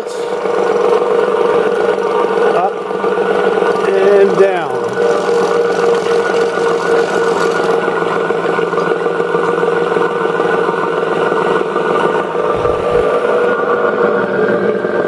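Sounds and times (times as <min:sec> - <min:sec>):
disc sander motor humming: 0:00.0 - 0:14.8.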